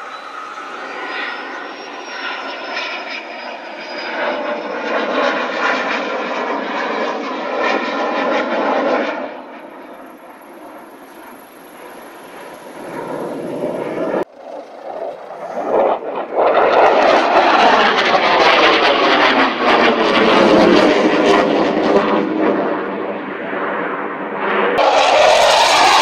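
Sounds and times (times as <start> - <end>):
fighter jet roaring past: 0.0 - 26.0.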